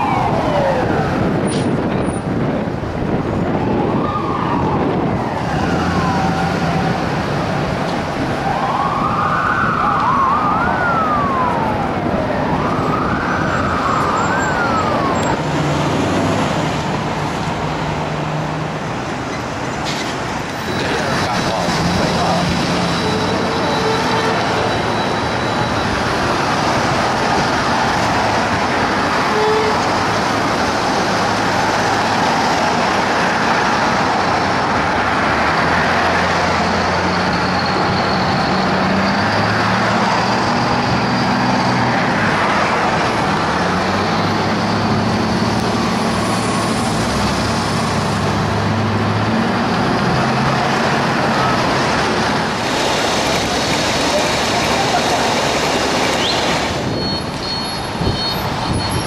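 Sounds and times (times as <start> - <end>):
fire engine droning: 0.0 - 59.0
street noise: 0.0 - 59.0.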